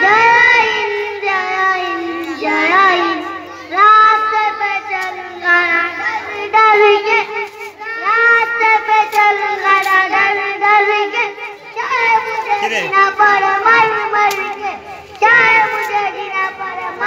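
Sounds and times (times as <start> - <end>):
boy singing into microphone: 0.0 - 17.0.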